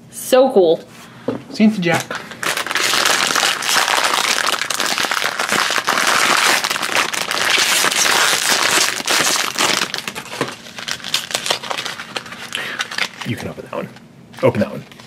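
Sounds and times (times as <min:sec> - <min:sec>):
foil wrapper crinkling and tearing: 0:02.1 - 0:15.0.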